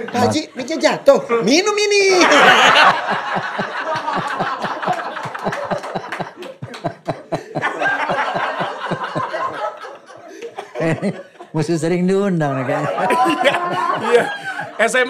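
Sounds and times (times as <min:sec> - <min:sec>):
men laughing: 0:00.0 - 0:15.0.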